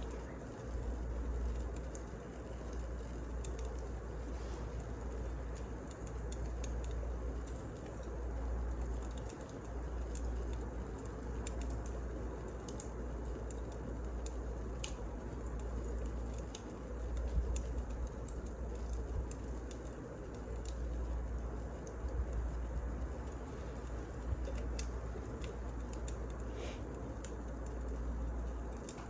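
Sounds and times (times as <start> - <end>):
fire crackles and pops: 0.0 - 29.0
wood fire rumble and hiss: 0.0 - 29.0.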